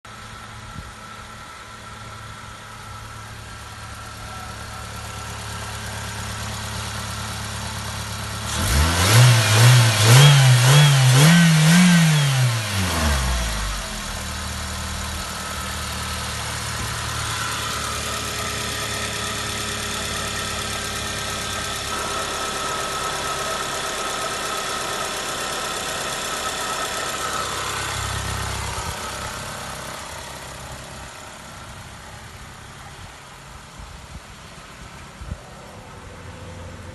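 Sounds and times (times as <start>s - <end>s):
car engine idling and revving: 0.1s - 36.9s.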